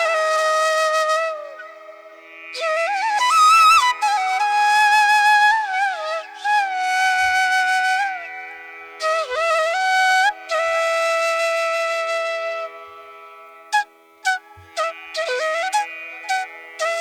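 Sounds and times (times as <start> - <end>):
flute melody: 0.0 - 8.2, 9.0 - 13.1, 13.7 - 17.0.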